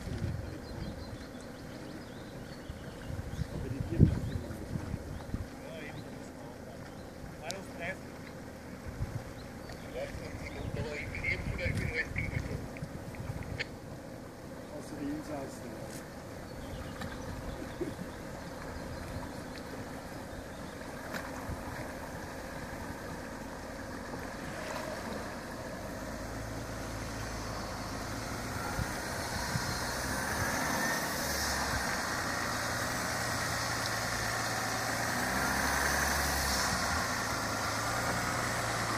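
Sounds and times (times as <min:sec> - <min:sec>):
car engine at low revs: 0:00.0 - 0:38.9
water washing around vehicle: 0:00.0 - 0:38.9.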